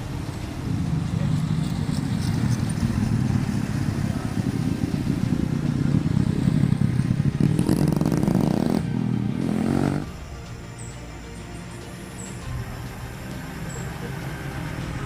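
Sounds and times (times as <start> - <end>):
truck engine under load: 0.0 - 15.0
vehicle rattling: 0.0 - 15.0.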